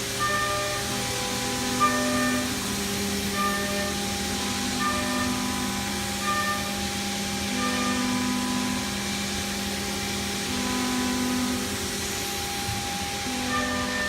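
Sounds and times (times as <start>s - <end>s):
higher machine tone: 0.0s - 14.0s
lathe humming over hiss: 0.0s - 14.0s.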